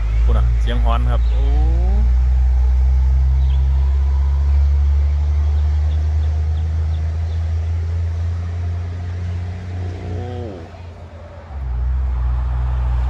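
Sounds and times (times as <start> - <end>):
truck diesel engine droning: 0.0 - 13.0
turbo howling: 0.0 - 13.0.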